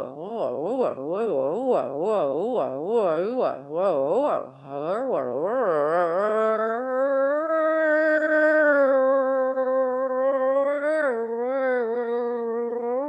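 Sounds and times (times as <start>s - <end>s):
person humming: 0.0s - 13.0s.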